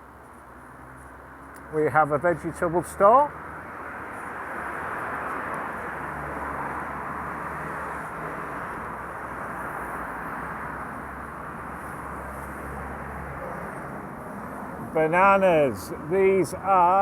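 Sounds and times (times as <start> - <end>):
passing traffic rumble: 0.5 - 17.0.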